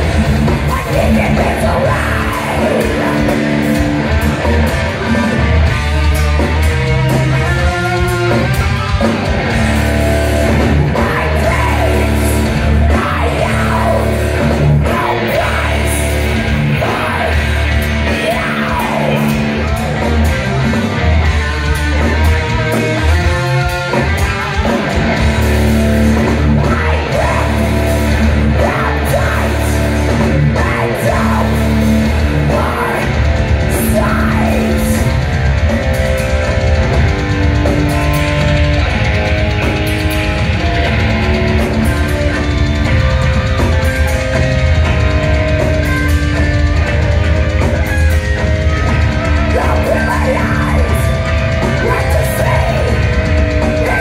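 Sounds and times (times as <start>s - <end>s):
death metal band playing live: 0.0s - 54.0s
lead guitar bending notes: 0.0s - 54.0s.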